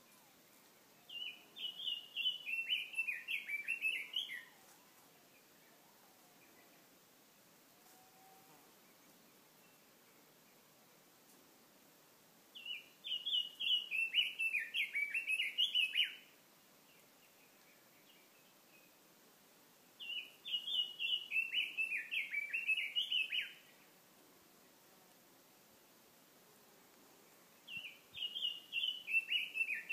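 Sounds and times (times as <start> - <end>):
songbird singing: 0.0 - 11.2, 12.4 - 29.9.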